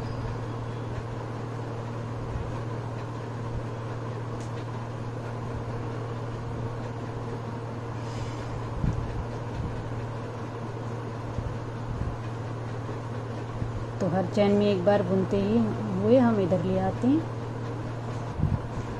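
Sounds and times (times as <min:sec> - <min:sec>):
low appliance hum with hiss: 0:00.0 - 0:18.9.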